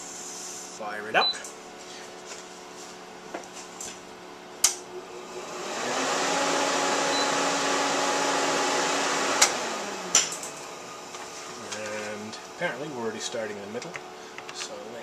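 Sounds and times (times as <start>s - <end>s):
computer cooling fans whirring: 0.0s - 15.0s.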